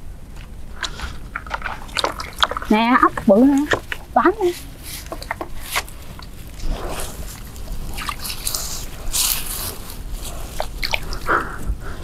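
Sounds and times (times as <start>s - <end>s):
hands sloshing in muddy water: 0.8s - 11.3s.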